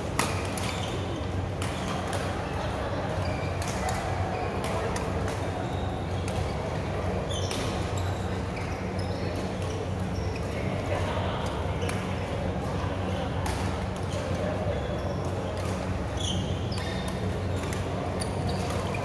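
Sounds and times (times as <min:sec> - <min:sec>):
court shoes squeaking: 0:00.0 - 0:19.0
faint chatter: 0:00.0 - 0:19.0.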